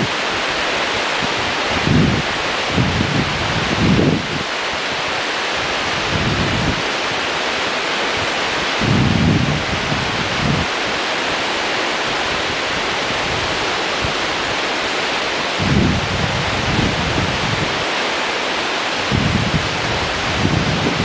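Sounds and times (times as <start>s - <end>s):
whitewater rapids rushing: 0.0s - 21.0s
wind buffeting microphone: 0.0s - 21.0s.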